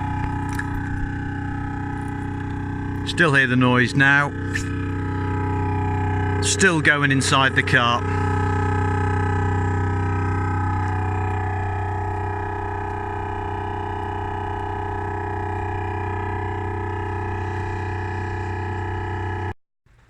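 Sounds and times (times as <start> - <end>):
speakers buzzing drone: 0.0 - 20.0.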